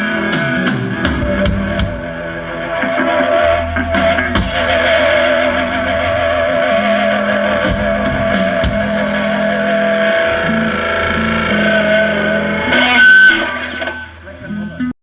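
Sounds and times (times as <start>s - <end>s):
bass notes: 0.0s - 14.9s
electric guitar with vibrato: 0.0s - 14.9s.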